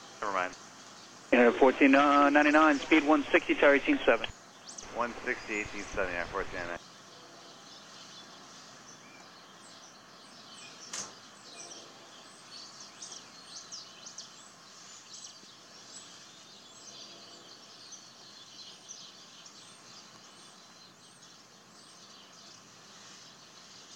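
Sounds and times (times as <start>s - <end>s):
outdoor background hiss: 0.0s - 23.9s
small birds chirping: 0.5s - 23.9s.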